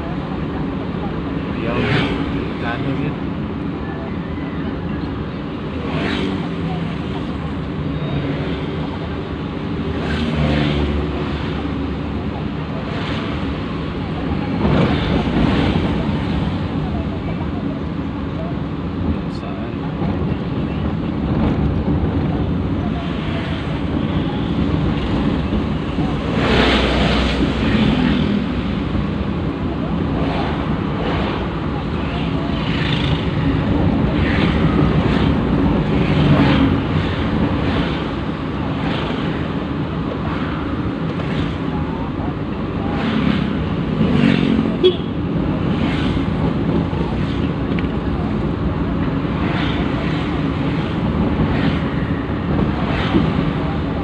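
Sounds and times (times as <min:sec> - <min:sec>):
engine and tyre rumble: 0:00.0 - 0:54.0
oncoming traffic passing: 0:00.0 - 0:54.0.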